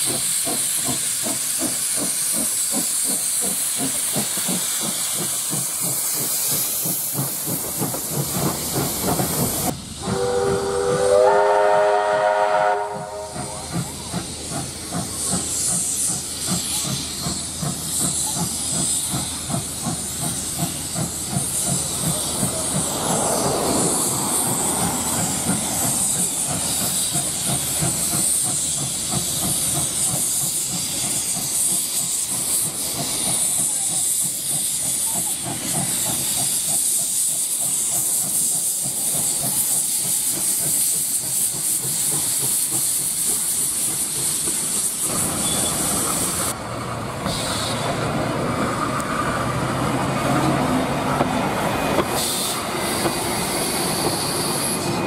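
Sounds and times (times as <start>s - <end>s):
steam hissing: 0.0s - 55.0s
steam locomotive exhaust beat: 0.0s - 55.0s.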